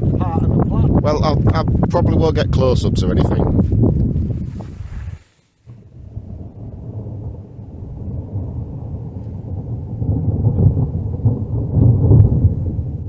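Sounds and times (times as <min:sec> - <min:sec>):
thunder rumbling: 0:00.0 - 0:05.0, 0:05.7 - 0:13.0.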